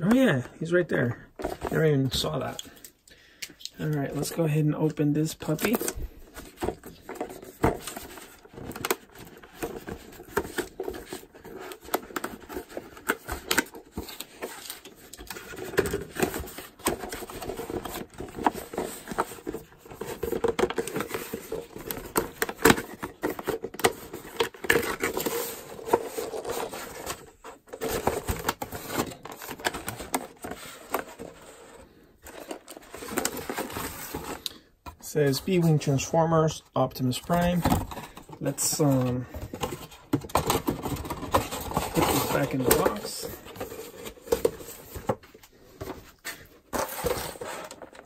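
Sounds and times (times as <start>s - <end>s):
cardboard scraping and rustling: 5.5s - 34.4s, 37.1s - 48.0s.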